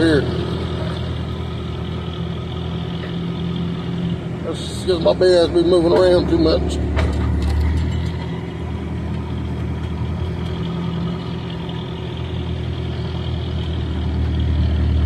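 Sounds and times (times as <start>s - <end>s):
vehicle engine running low: 0.0s - 15.0s.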